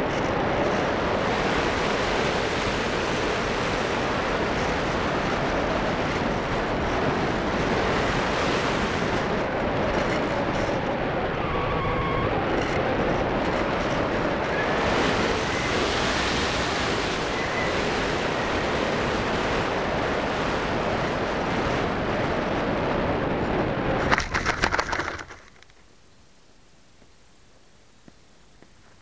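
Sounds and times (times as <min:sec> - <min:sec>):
wind rushing over microphone: 0:00.0 - 0:25.4.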